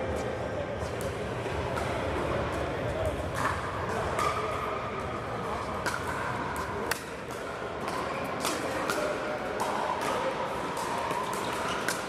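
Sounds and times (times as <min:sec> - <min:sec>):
steady hall hum: 0:00.0 - 0:12.0.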